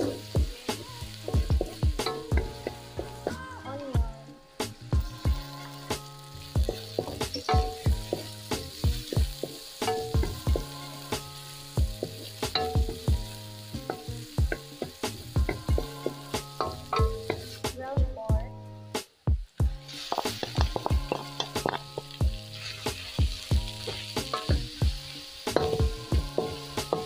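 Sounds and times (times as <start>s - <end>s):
wooden spatula stirring in wok: 0.0s - 17.8s, 19.6s - 27.0s
background music with steady beat: 0.0s - 27.0s
garlic and onion sizzling in oil: 0.0s - 27.0s.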